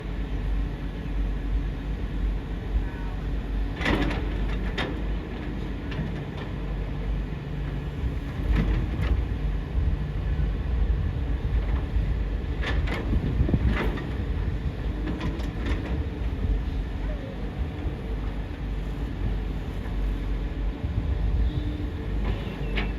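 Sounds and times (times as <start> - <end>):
excavator engine rumble: 0.0 - 22.9.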